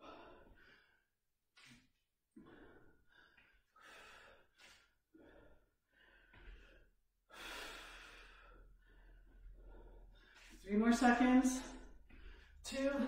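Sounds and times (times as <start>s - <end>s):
woman breathing hard: 0.0s - 1.7s, 2.3s - 10.6s, 11.7s - 12.6s.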